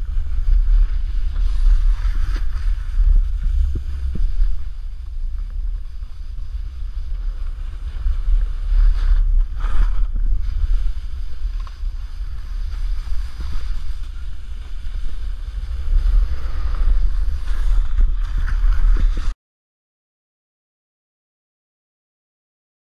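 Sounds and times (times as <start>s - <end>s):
snowboard sliding on snow: 0.0s - 19.4s
wind buffeting microphone: 0.0s - 19.4s.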